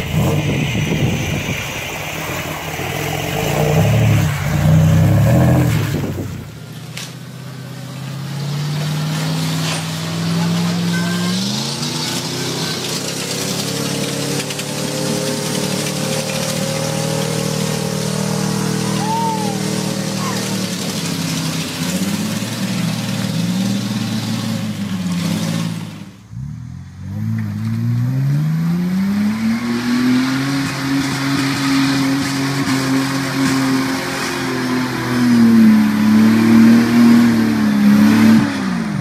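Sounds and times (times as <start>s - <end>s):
truck engines revving: 0.0s - 39.0s.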